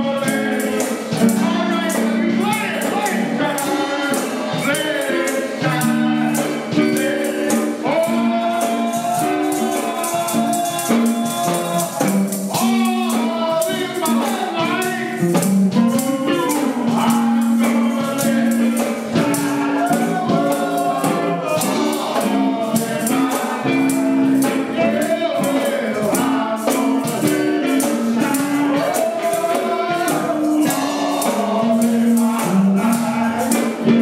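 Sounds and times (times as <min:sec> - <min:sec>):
held accompanying notes: 0:00.0 - 0:34.0
tambourine shaking: 0:00.0 - 0:34.0
voices singing gospel: 0:00.0 - 0:34.0.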